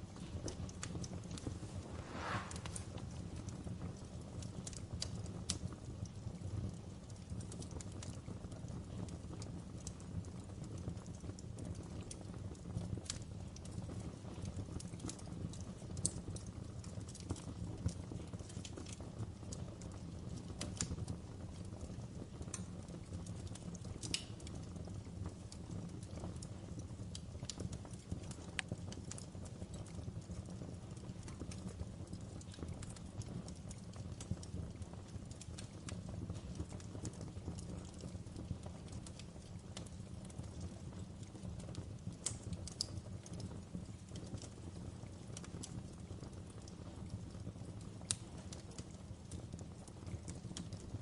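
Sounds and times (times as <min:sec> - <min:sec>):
burning logs crackling and popping: 0:00.0 - 0:51.0
low rumble of flames: 0:00.0 - 0:51.0.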